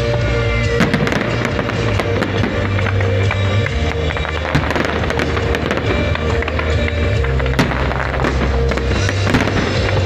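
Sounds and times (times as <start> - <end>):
fireworks popping and crackling: 0.0 - 10.0
loud music with heavy bass: 0.0 - 10.0.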